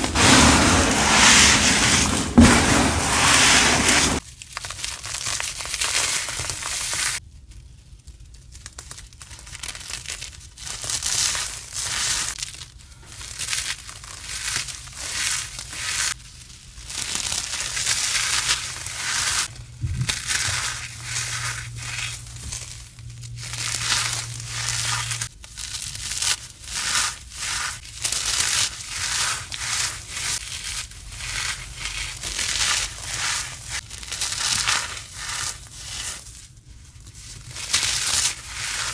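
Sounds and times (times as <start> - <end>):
dry powdery material crunching: 0.0 - 7.2, 8.6 - 38.9.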